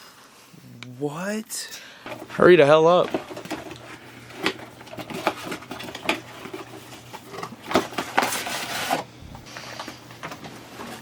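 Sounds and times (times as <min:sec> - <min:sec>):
faint steady hum: 0:00.0 - 0:11.0
packaging crinkling and rustling: 0:02.0 - 0:11.0.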